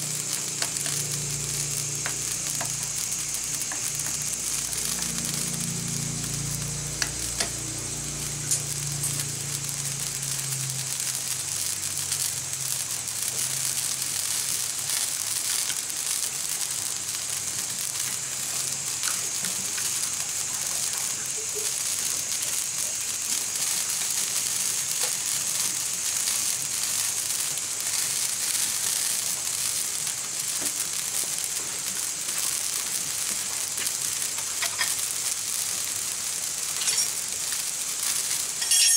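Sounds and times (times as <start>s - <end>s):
greens sizzling in a frying pan: 0.0s - 38.9s
wood fire crackles: 0.0s - 38.9s.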